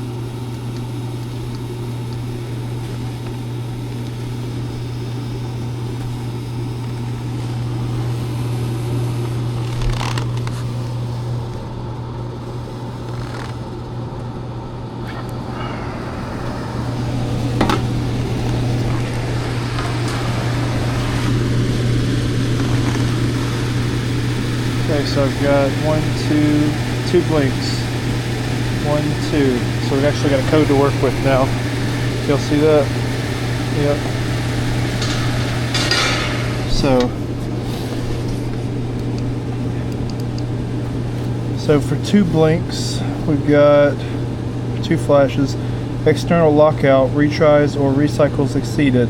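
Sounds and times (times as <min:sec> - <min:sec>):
furnace blower fan humming: 0:00.0 - 0:49.0.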